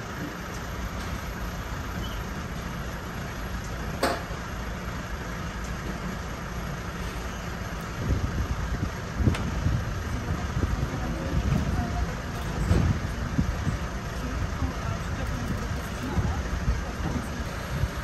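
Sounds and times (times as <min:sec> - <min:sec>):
low engine surges: 0:00.0 - 0:18.0
truck engine running: 0:00.0 - 0:18.0.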